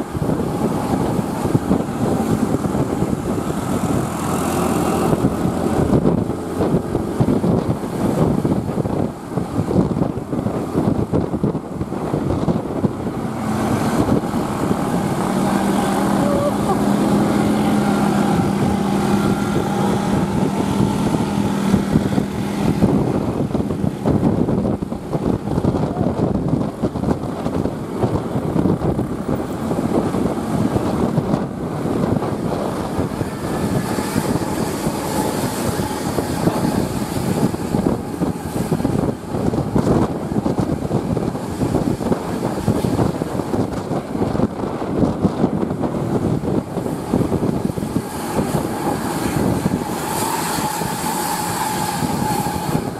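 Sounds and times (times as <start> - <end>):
diesel bus engine rumbling: 0.0 - 52.9.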